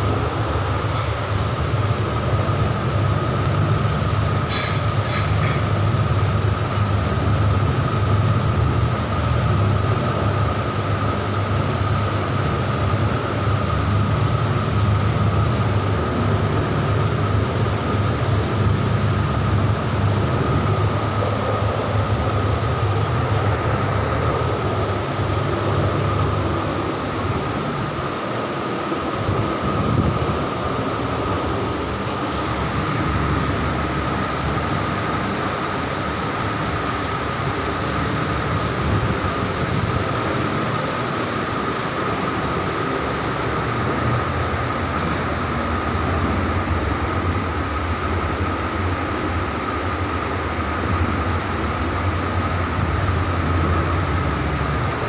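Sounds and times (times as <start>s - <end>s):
air buffeting microphone: 0.0s - 55.0s
ceiling fan running: 0.0s - 55.0s.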